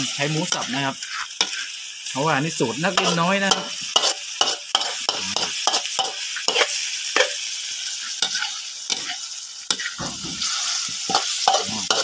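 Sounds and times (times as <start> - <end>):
metal spatula scraping wok: 0.0 - 1.8, 2.9 - 7.4, 8.0 - 12.0
pork sizzling in oil: 0.0 - 12.0.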